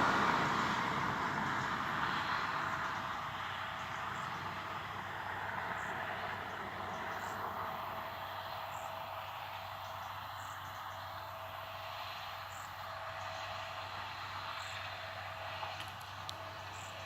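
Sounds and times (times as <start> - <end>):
farm machinery engine drone: 0.0 - 17.0.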